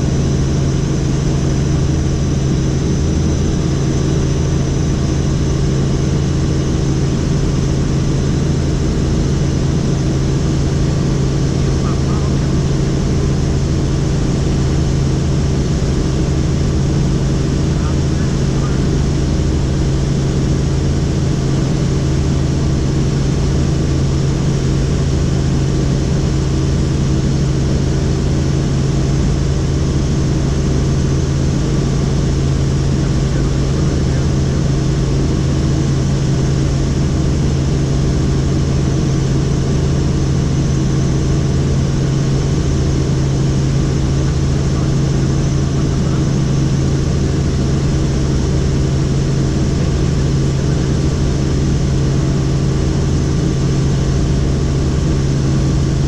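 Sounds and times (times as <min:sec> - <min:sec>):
helicopter rotors droning: 0:00.0 - 0:56.0.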